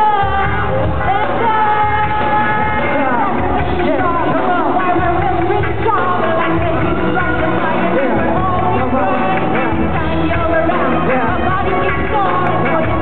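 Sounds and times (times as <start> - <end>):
drum kit: 0.0 - 13.0
electric guitar: 0.0 - 13.0
person singing into microphone: 0.0 - 13.0.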